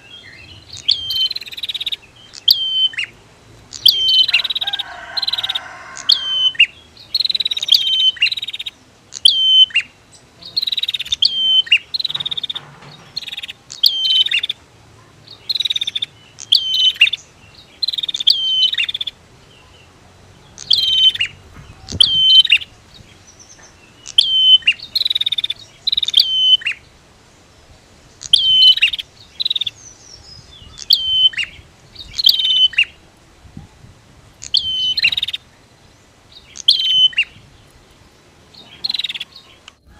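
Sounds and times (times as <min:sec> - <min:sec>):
bird calling sharp high phrases: 0:00.0 - 0:33.6, 0:34.3 - 0:39.9.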